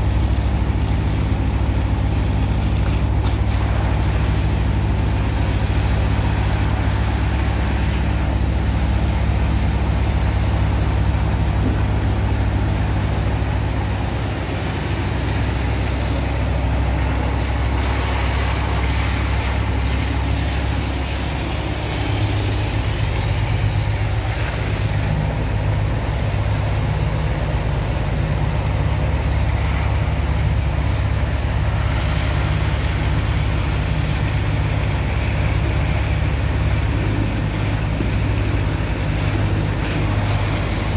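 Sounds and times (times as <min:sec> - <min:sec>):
pump engine drone: 0:00.0 - 0:40.9
water hose jet hissing: 0:00.0 - 0:40.9.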